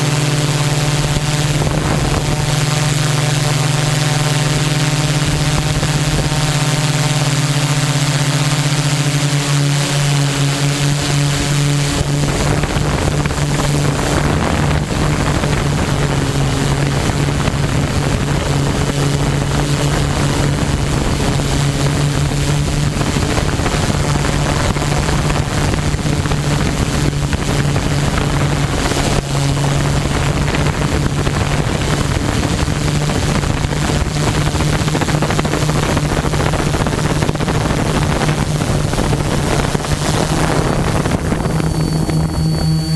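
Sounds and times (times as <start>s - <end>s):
drone motors and propellers humming: 0.0s - 42.9s
loud rushing noise: 0.0s - 42.9s.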